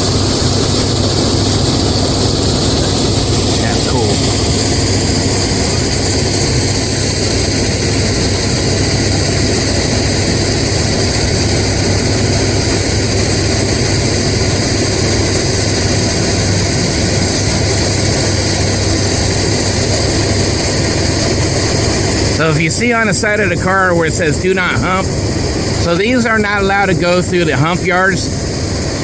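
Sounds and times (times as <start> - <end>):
heavy diesel machinery running: 0.0 - 29.0.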